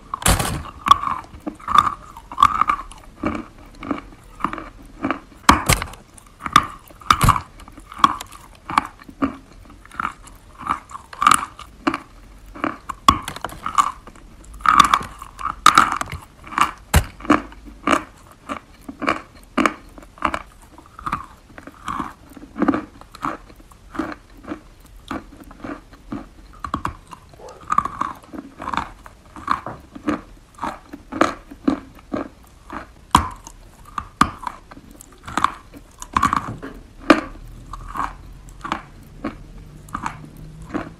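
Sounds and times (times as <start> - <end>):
chalk crunching while chewed: 0.0 - 40.9.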